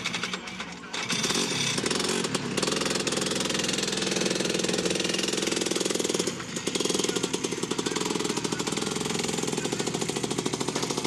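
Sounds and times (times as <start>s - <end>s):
go-kart engines at high revs: 0.0s - 11.0s.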